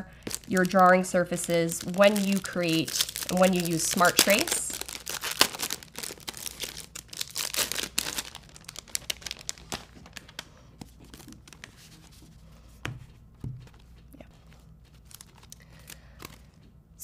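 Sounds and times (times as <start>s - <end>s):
paper packaging rustling: 0.2s - 12.4s, 14.5s - 16.7s.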